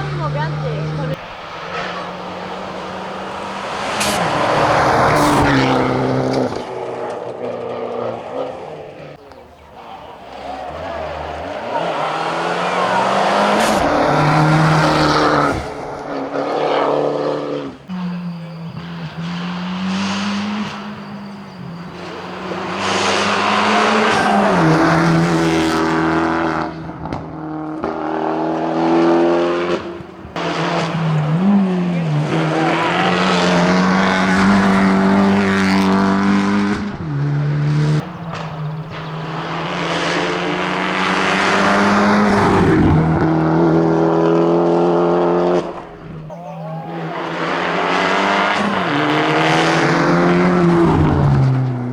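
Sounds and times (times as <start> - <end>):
race car engine at high revs: 0.0 - 51.9.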